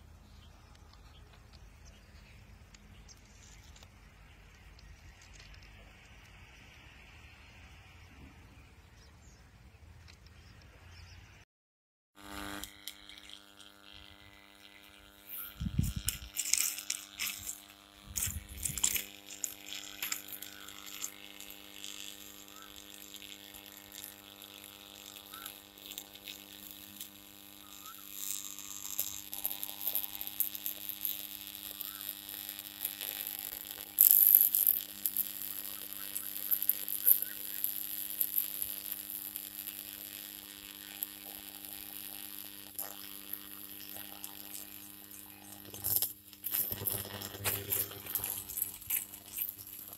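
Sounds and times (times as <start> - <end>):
electric arc buzzing and crackling: 0.0 - 8.1, 12.2 - 49.9.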